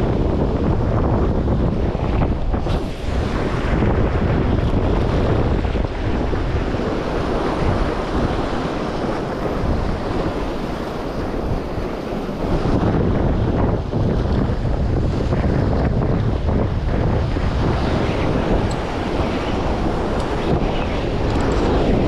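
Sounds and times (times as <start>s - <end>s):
surf washing over rocks: 0.0s - 22.0s
wind buffeting microphone: 0.0s - 22.0s.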